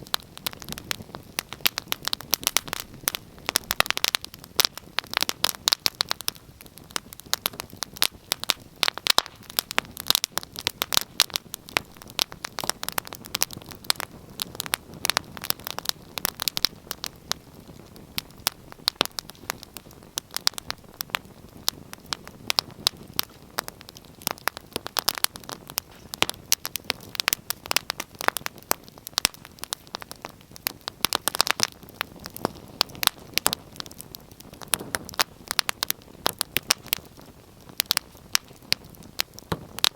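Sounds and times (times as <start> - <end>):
hiss of burning: 0.0 - 39.9
wood fire crackling: 0.0 - 39.9.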